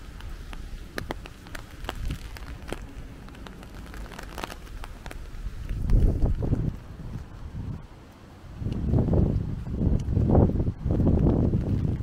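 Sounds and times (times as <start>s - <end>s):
raindrops ticking on hard surface: 0.0s - 7.8s, 8.7s - 12.0s.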